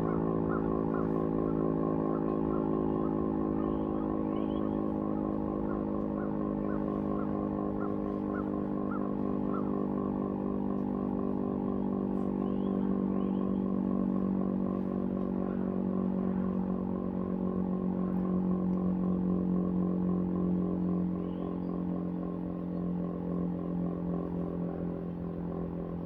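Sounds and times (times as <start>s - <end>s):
outdoor warning siren: 0.0s - 22.5s.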